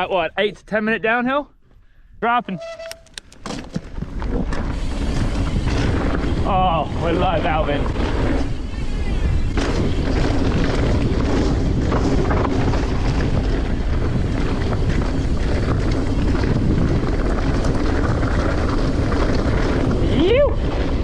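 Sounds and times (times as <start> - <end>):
bike knocking and rattling: 2.6 - 8.6, 9.4 - 21.0
bike tyre roar: 3.8 - 21.0
wind rushing on microphone: 3.8 - 21.0.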